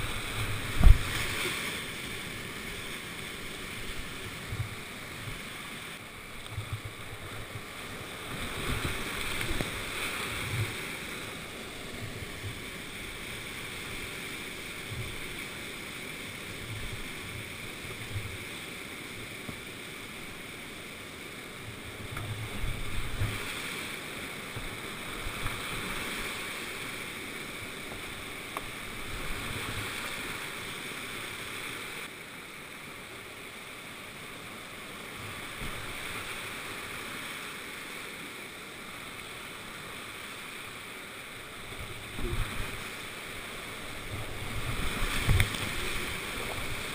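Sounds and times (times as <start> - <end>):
rushing whitewater: 0.0 - 46.9.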